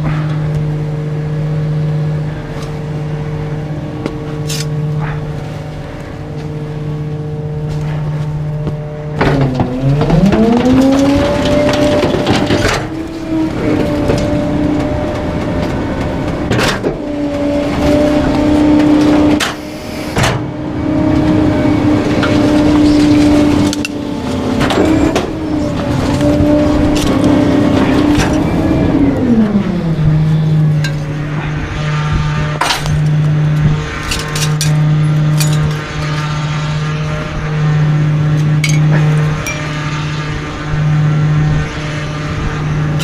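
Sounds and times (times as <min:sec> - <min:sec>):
hydraulic pump whine: 0:00.0 - 0:43.0
truck engine rumble: 0:00.0 - 0:43.0.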